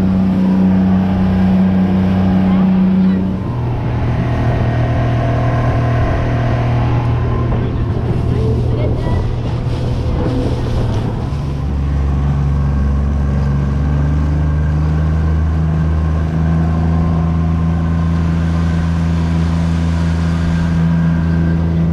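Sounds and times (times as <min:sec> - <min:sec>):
outboard motor droning: 0:00.0 - 0:21.9
water rushing past hull: 0:00.0 - 0:21.9.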